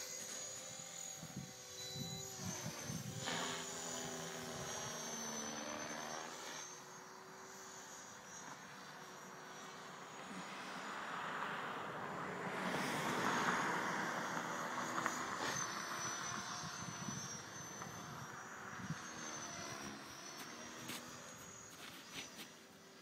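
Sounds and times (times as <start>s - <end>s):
rc helicopter motor whine: 0.0s - 23.0s.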